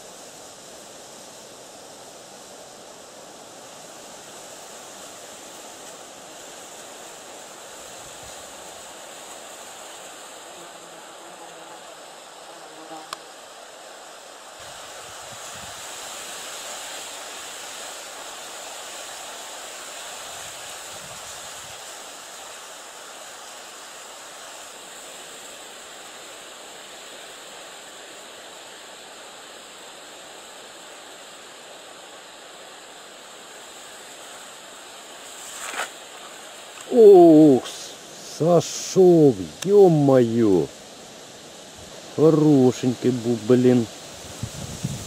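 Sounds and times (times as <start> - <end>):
rippling lake water: 0.0 - 11.2, 13.2 - 45.0
wind: 0.0 - 45.0.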